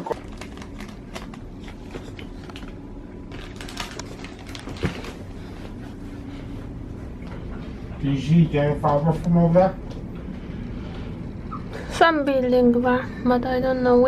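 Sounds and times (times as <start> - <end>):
low room tone hum: 0.0 - 14.0.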